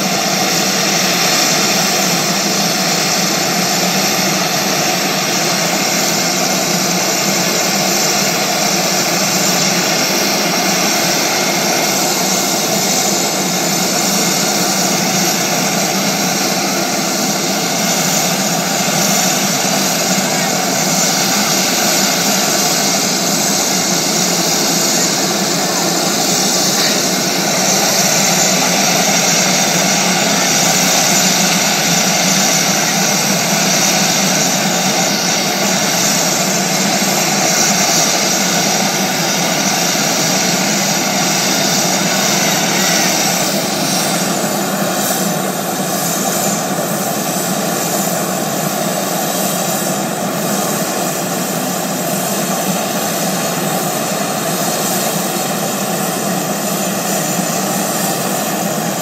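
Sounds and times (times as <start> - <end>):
aircraft turbine hiss and whine: 0.0 - 59.0.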